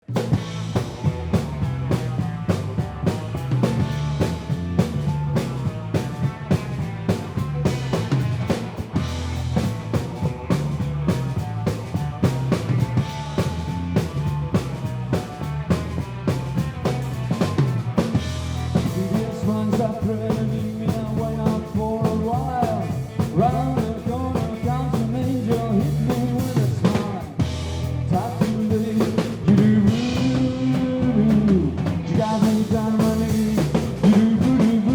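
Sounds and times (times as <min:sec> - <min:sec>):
bass: 0:00.0 - 0:34.9
drum kit steady beat: 0:00.0 - 0:34.9.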